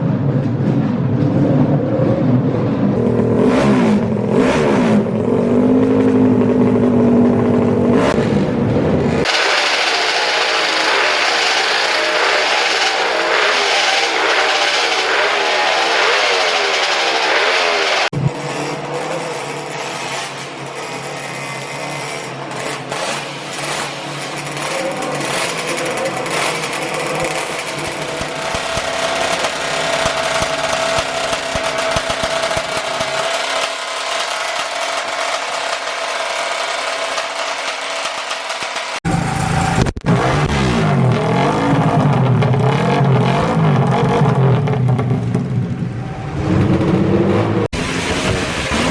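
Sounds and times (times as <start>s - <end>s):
engine running steadily: 0.0s - 48.9s
motorcycle engines revving: 0.0s - 48.9s.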